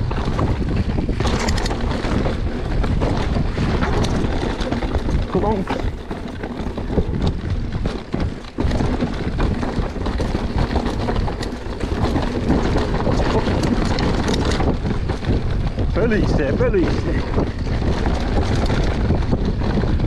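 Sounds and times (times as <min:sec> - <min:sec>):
bike rattling over rough ground: 0:00.0 - 0:20.0
wind noise on microphone: 0:00.0 - 0:20.0.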